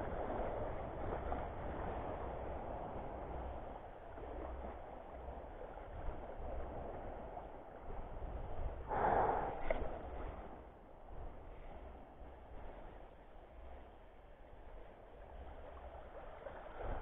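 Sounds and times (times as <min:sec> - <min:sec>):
small waves lapping shore: 0:00.0 - 0:17.0
wind on microphone: 0:00.0 - 0:17.0.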